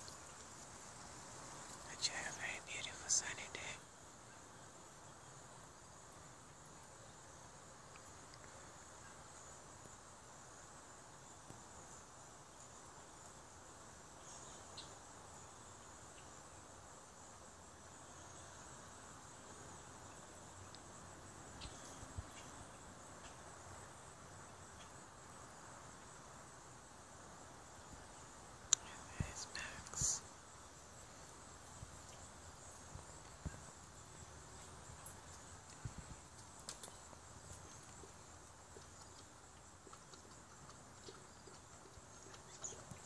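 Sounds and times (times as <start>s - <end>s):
high insect drone: 0.0s - 43.0s.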